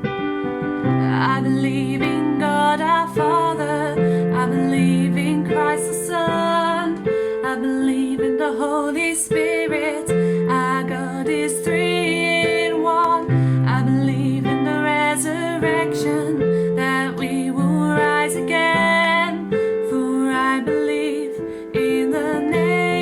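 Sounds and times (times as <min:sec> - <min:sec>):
piano and guitar accompaniment: 0:00.0 - 0:23.0
woman singing: 0:00.8 - 0:23.0.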